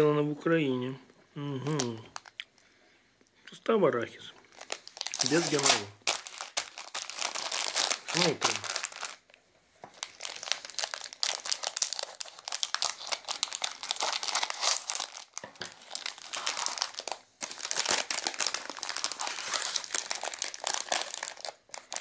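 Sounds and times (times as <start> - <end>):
plastic packet crinkling: 1.7 - 2.6, 4.5 - 22.0.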